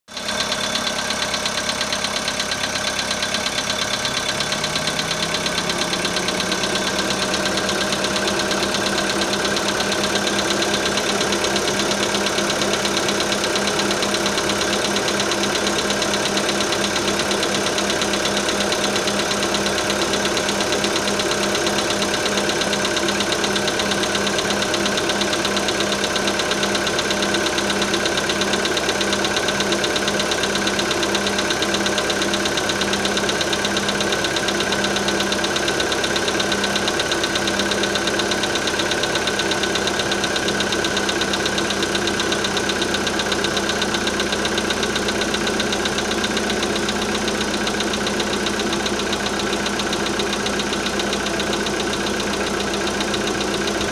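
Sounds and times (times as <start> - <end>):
car engine idling with knock: 0.1 - 53.9.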